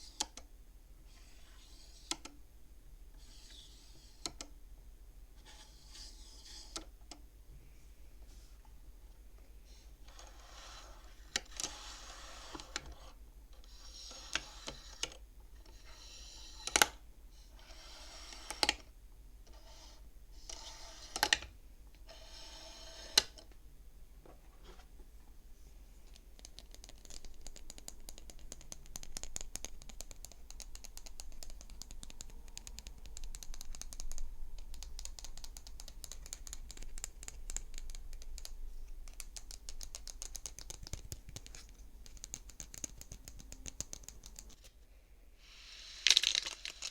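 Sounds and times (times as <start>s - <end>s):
abacus beads sliding and clacking: 1.1s - 2.4s, 3.2s - 4.5s, 5.4s - 7.1s, 9.7s - 18.9s, 19.5s - 23.5s, 26.2s - 44.7s, 45.4s - 46.9s.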